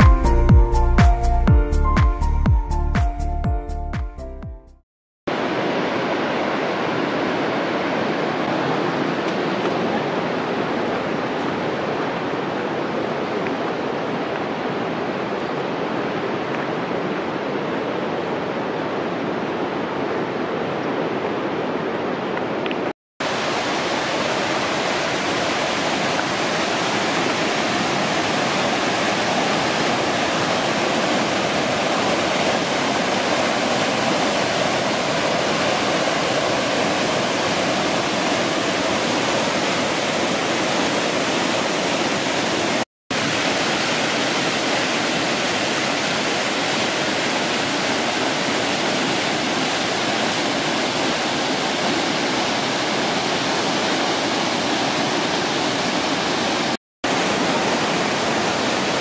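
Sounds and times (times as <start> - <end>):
waterfall crashing into pool: 5.3 - 20.0, 23.2 - 59.0.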